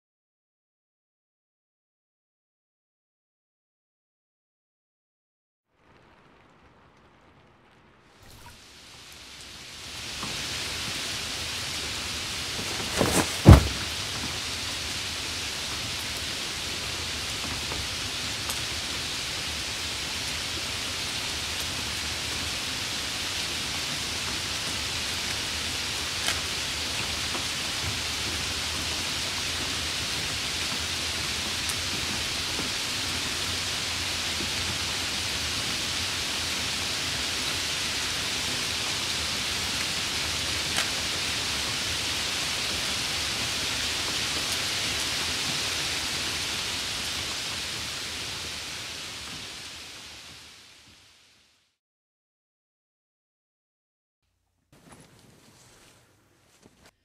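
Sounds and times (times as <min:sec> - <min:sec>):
heavy rain: 0:05.7 - 0:51.7.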